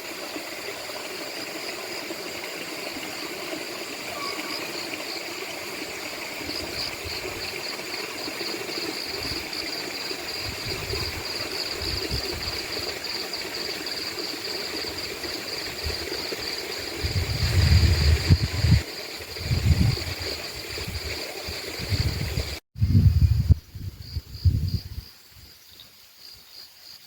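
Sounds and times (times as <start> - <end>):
flowing stream: 0.0 - 22.6
high-pitched insect chorus: 0.0 - 27.0.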